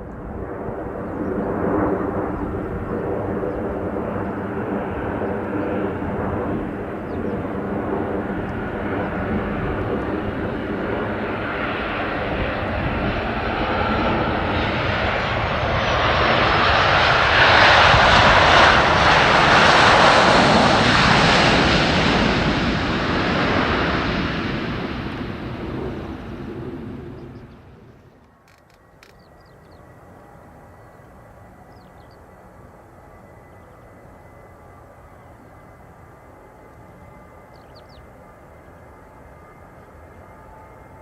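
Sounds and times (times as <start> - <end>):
jet airliner passing: 0.0 - 41.0
jet engine whine: 0.0 - 41.0.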